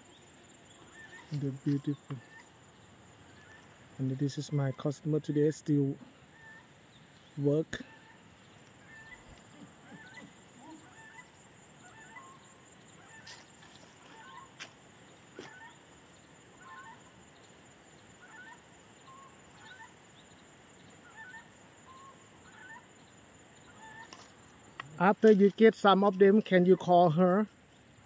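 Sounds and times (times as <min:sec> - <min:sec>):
faint bird chirping: 0:00.0 - 0:28.0.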